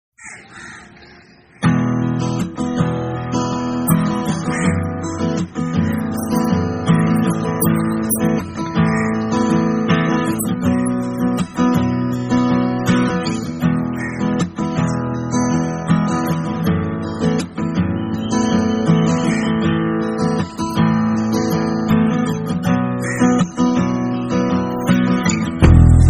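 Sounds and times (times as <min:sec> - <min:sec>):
strummed acoustic guitar: 0:01.6 - 0:26.0.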